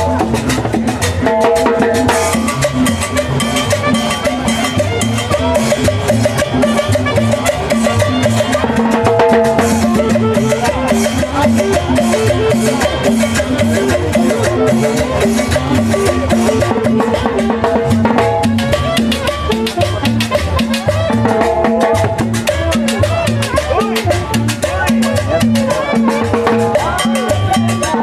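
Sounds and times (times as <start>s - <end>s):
bass line: 0.0s - 28.0s
conga and timbales drumming: 0.0s - 28.0s.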